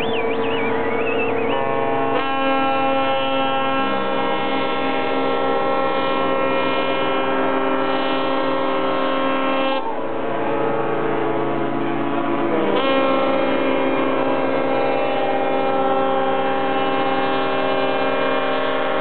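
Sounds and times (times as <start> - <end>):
ship horns sounding a chord: 0.0 - 19.0.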